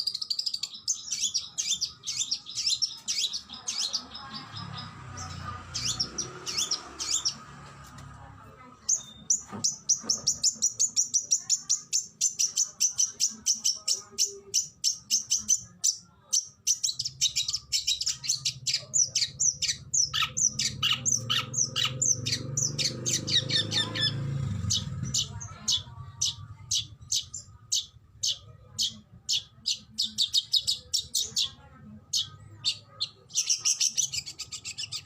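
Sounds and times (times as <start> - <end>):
bird singing rapid chirps: 0.0 - 7.6, 8.8 - 35.0.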